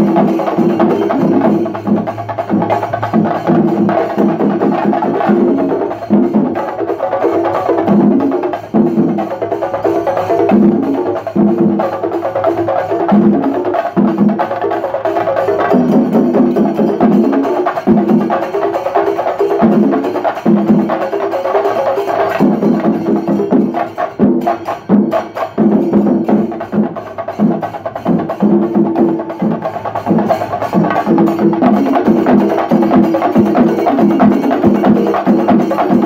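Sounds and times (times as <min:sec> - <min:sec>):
drums beaten with sticks: 0:00.0 - 0:36.0
hand cymbals: 0:00.0 - 0:36.0.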